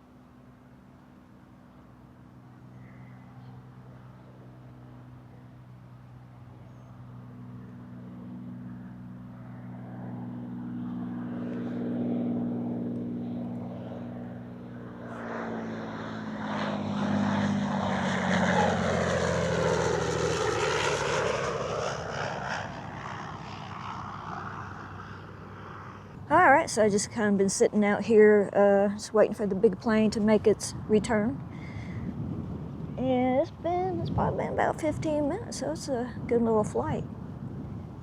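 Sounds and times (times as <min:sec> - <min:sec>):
propeller airplane flying past: 0:00.0 - 0:38.0.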